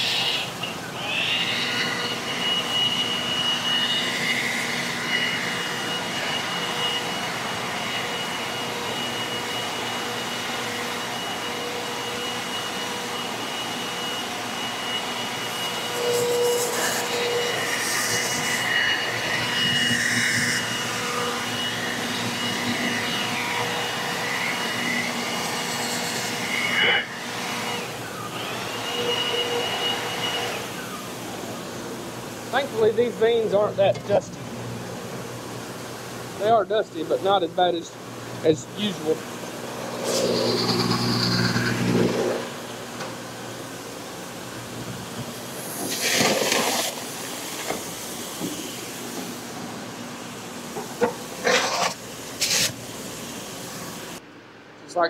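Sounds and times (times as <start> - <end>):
machinery whine: 0.0 - 54.2.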